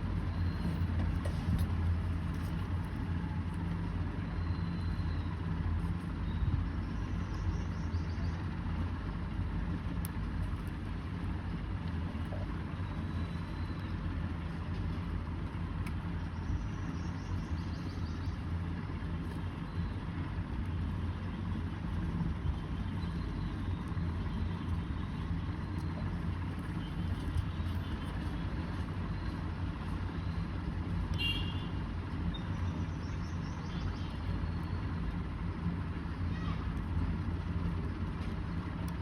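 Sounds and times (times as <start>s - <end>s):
low rumble with hum: 0.0s - 39.0s.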